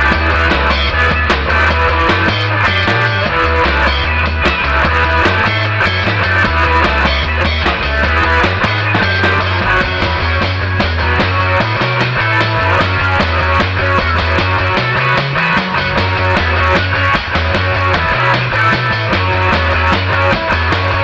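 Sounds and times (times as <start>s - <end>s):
bass guitar line: 0.0s - 21.0s
drum kit: 0.0s - 21.0s
electric guitar: 0.0s - 21.0s.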